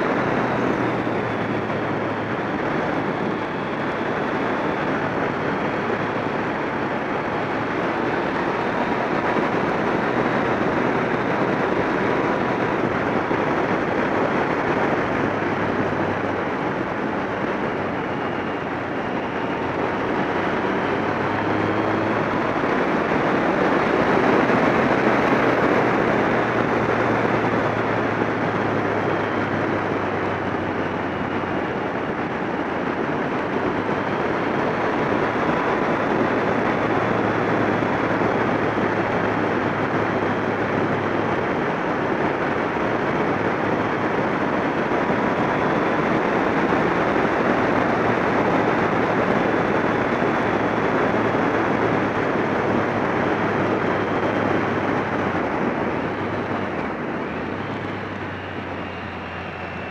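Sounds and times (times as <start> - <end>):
motorcycle engine low hum: 0.0 - 59.9
wind rushing over microphone: 0.0 - 59.9.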